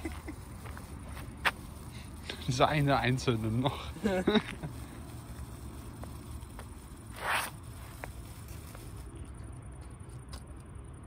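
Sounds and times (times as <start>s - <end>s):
faint firework crackles: 0.0s - 9.2s
steady low rumble: 0.0s - 11.0s.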